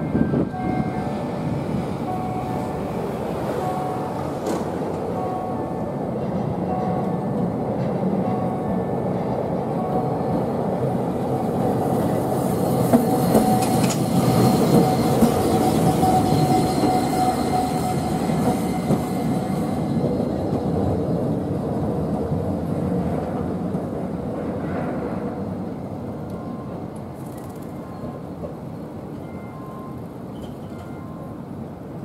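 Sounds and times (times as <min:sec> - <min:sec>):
tram rumbling past on rails: 0:00.0 - 0:32.0.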